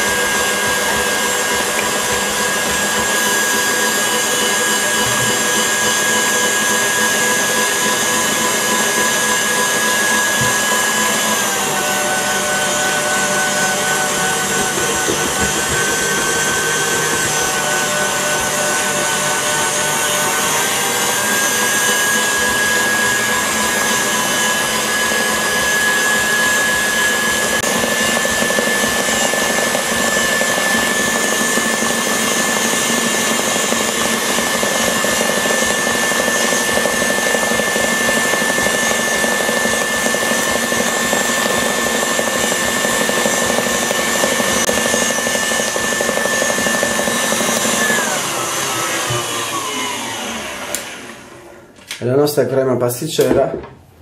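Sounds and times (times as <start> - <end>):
stand mixer whining: 0.0 - 51.8.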